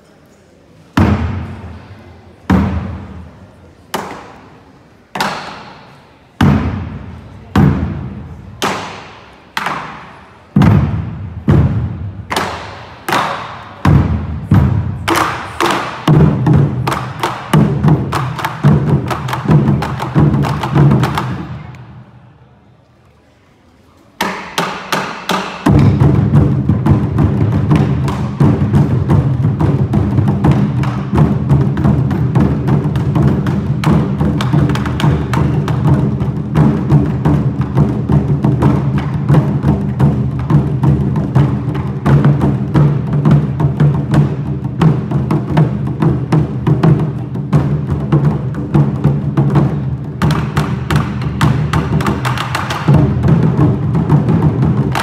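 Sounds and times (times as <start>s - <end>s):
barrel drums ensemble: 1.0s - 1.8s, 2.4s - 3.3s, 5.1s - 22.1s, 24.2s - 55.0s.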